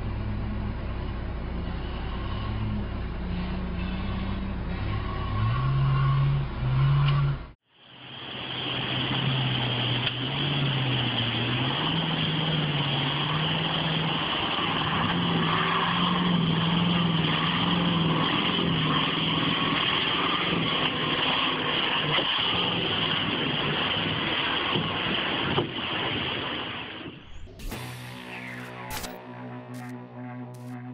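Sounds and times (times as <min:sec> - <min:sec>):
truck engine working hard: 0:00.0 - 0:26.0, 0:27.2 - 0:30.9.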